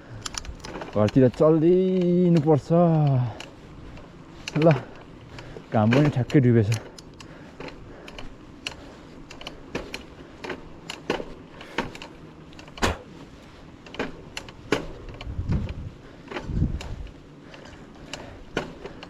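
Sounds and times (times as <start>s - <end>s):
bicycle clicks and knocks: 0.0s - 19.0s.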